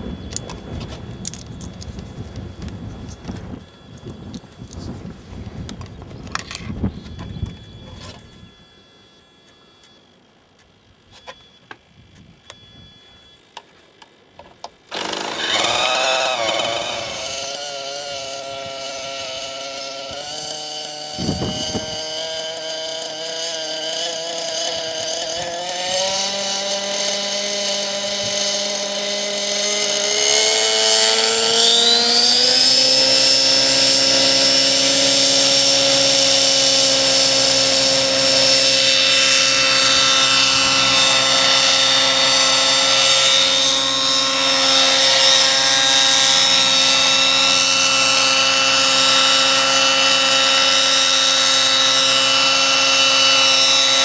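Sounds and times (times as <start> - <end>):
model helicopter engine and rotor: 0.0 - 54.0.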